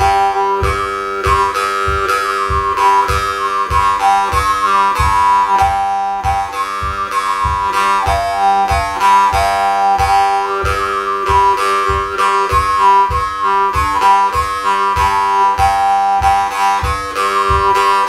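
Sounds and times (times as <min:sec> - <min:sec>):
jew's harp buzzing melody: 0:00.0 - 0:18.0.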